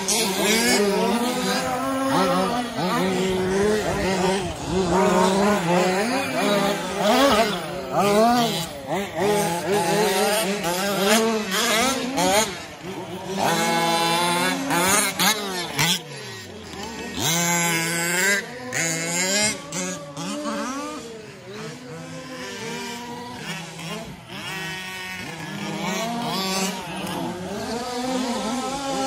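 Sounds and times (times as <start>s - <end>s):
small two-stroke engines revving: 0.0s - 29.0s.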